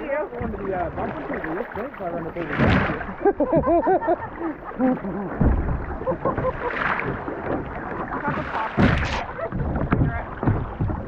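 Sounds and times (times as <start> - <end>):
water around a kayak: 0.0 - 11.0.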